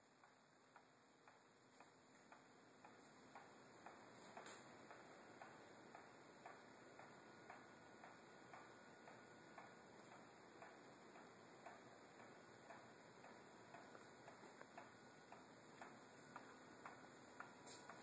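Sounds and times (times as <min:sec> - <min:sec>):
wall clock ticking: 0:00.0 - 0:18.0.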